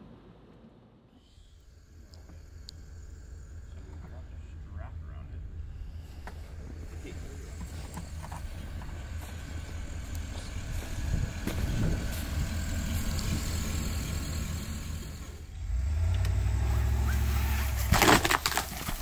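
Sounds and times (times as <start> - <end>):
truck engine and road rumble: 1.2 - 19.0.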